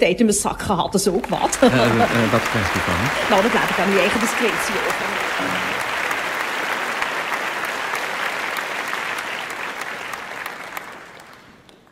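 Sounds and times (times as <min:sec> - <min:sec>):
audience applauding: 0:01.2 - 0:11.9.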